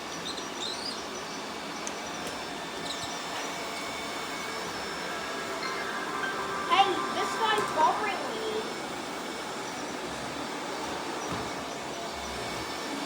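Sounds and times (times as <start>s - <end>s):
robot vacuums whirring: 0.2s - 13.0s.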